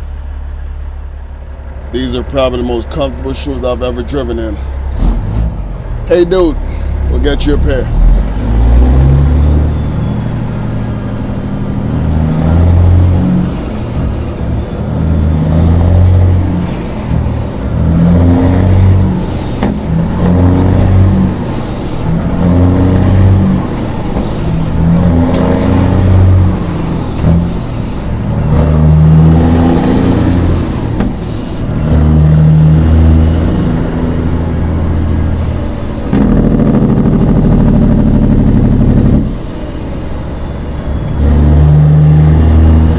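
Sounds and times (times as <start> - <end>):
diesel truck engine accelerating: 0.0 - 42.9.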